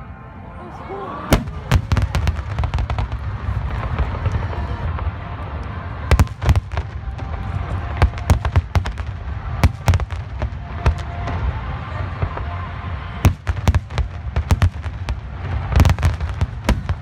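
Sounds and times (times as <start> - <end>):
fireworks bangs: 1.3 - 17.0
low rumble of booms: 1.3 - 17.0.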